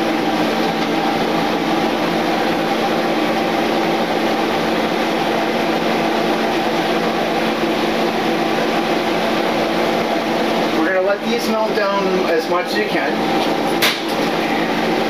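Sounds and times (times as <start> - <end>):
range hood fan whirring: 0.0 - 15.0.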